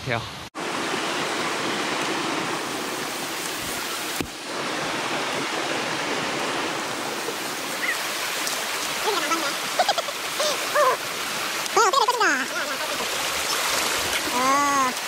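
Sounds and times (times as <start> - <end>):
stream rushing over rocks: 0.6 - 15.0.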